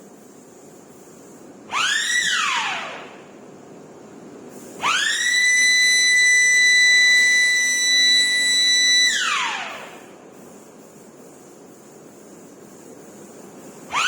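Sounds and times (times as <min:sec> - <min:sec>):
furnace equipment whine: 0:00.0 - 0:14.0.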